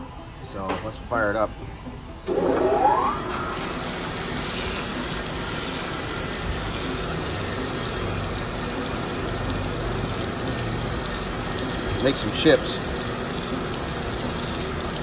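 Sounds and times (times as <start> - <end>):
grinder machine whine: 2.2 - 15.0.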